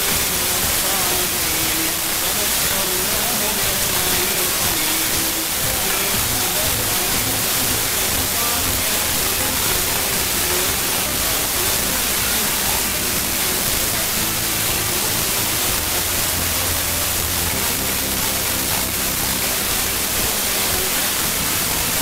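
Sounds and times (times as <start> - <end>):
faint broadcast audio: 0.0 - 22.0
radio static hiss: 0.0 - 22.0.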